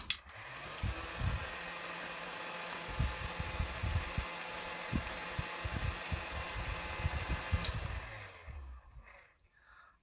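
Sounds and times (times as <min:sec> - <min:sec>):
heat gun fan hiss: 0:00.0 - 0:08.6.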